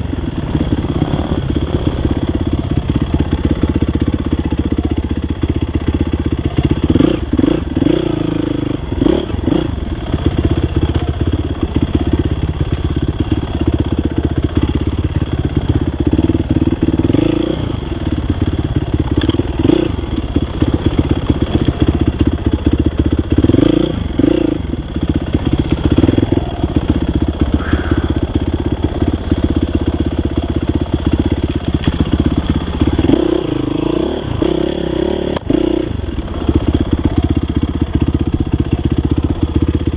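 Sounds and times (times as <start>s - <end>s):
dirt bike engine revving: 5.9s - 39.9s.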